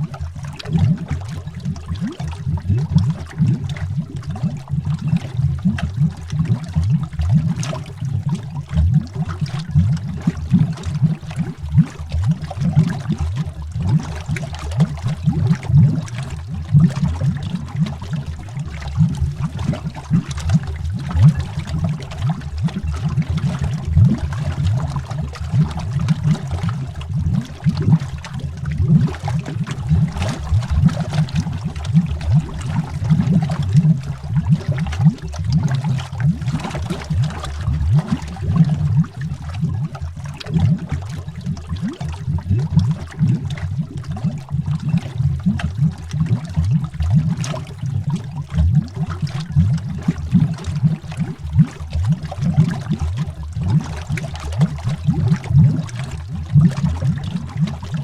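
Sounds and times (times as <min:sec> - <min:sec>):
underwater bubbles bubbling: 0:00.0 - 0:58.0.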